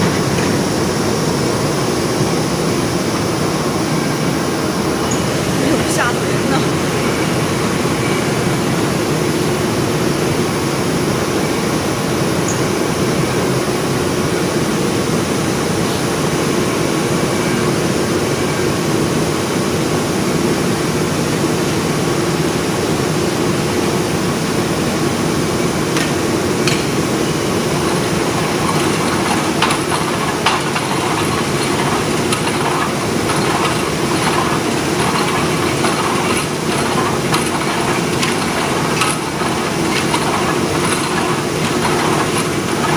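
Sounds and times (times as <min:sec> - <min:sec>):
factory machinery drone: 0:00.0 - 0:42.9.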